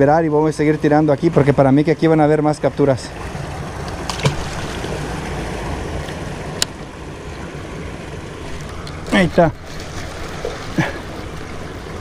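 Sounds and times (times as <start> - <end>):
water rushing through spillway: 0.0 - 12.0.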